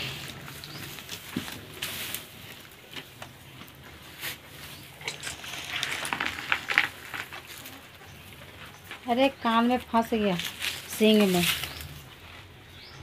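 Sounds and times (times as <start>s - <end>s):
cows crunching fodder: 0.0s - 13.0s
grass and straw rustling: 0.0s - 13.0s.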